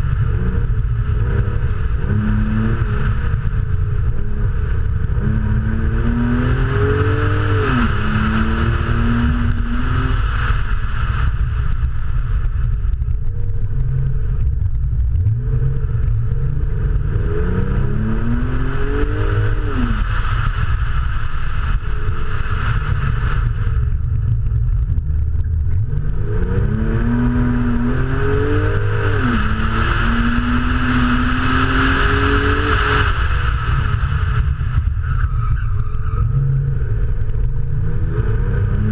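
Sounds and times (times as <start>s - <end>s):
car engine accelerating: 0.0s - 38.9s
road and wind rumble: 0.0s - 38.9s.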